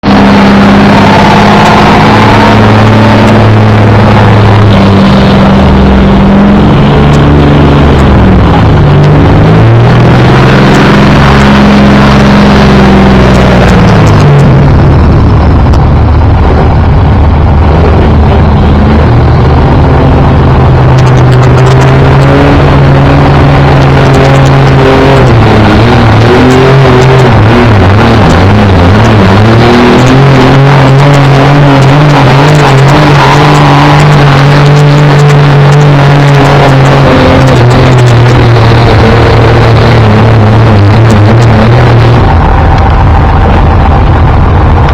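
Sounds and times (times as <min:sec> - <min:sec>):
diesel truck engine under load: 0:00.0 - 0:44.9.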